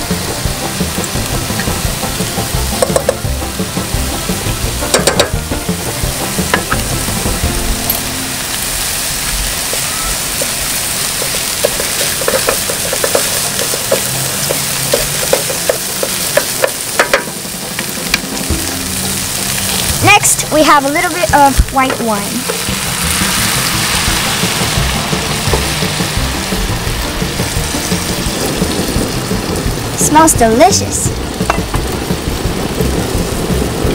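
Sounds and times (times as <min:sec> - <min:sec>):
food sizzling in frying pan: 0:00.0 - 0:33.9.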